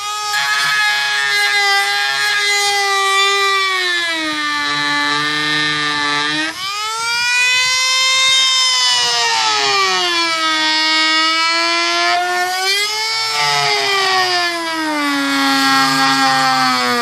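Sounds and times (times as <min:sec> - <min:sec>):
rotary tool whining cutting plastic: 0:00.0 - 0:17.0.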